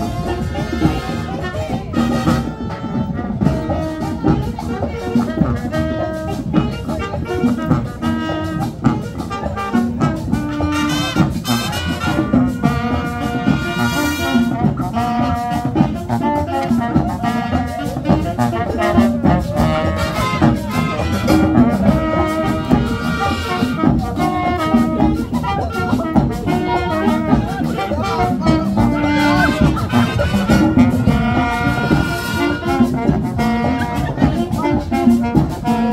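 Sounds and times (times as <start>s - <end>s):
brass playing melody: 0.0s - 35.9s
steady drum beat: 0.0s - 35.9s.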